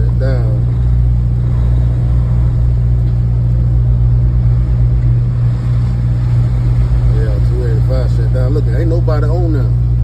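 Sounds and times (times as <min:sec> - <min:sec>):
road noise: 0:00.0 - 0:10.0
truck engine droning: 0:00.0 - 0:10.0.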